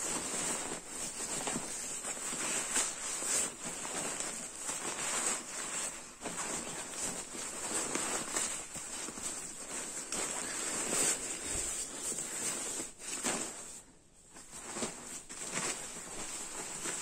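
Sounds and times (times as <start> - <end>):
nylon fabric rustling: 0.0 - 17.0.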